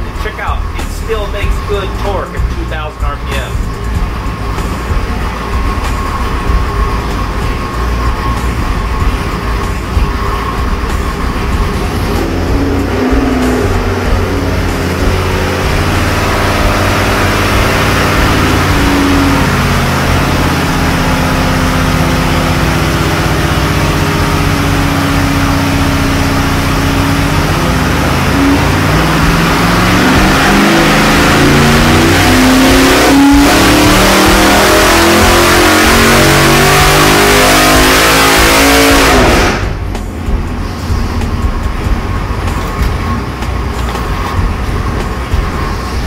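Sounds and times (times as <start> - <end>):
engine revving under load: 0.0 - 46.0.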